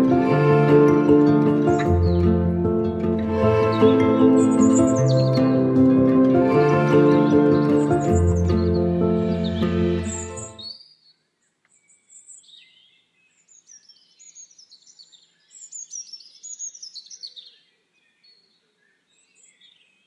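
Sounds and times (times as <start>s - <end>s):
songbirds chirping and trilling: 0.8s - 20.0s.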